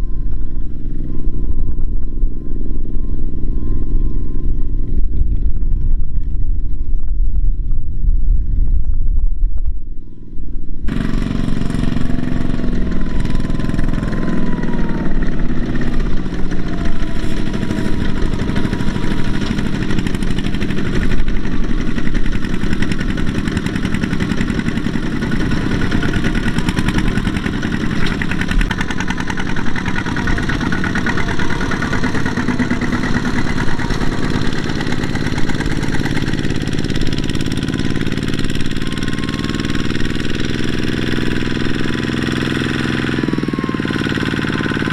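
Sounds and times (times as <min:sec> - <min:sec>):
diesel engine chugging: 0:00.0 - 0:06.7, 0:10.0 - 0:44.9.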